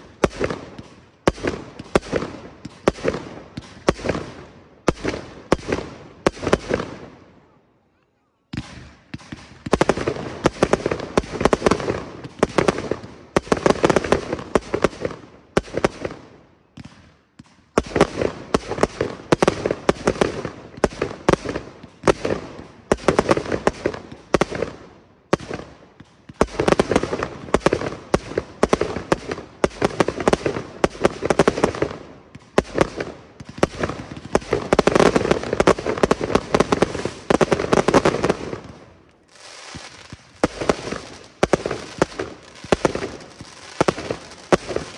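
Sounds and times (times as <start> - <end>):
fireworks cracking and banging: 0.0 - 7.6, 8.5 - 44.9.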